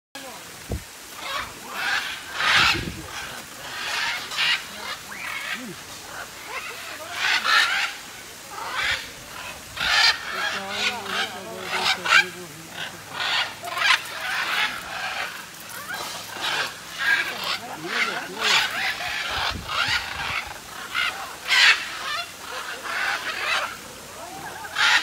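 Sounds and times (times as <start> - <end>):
macaws squawking: 0.9 - 25.0.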